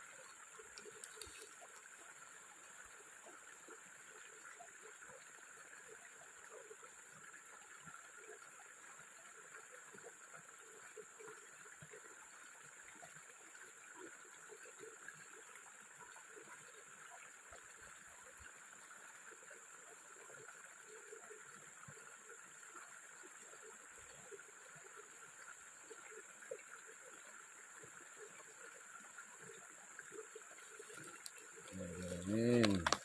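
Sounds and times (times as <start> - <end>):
water trickling and gurgling: 0.0 - 33.0.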